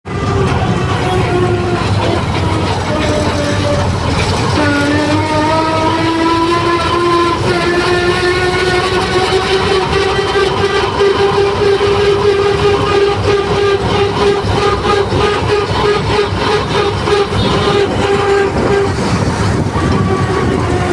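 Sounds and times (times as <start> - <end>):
combine harvester engine rumble: 0.1 - 20.9
rising whine: 0.1 - 20.9.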